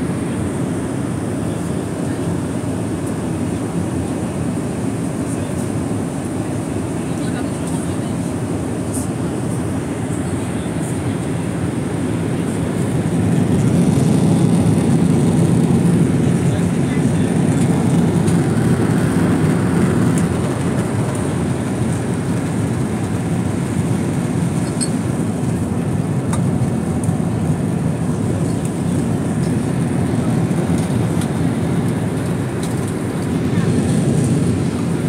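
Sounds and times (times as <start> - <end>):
airliner cabin noise: 0.0 - 35.0.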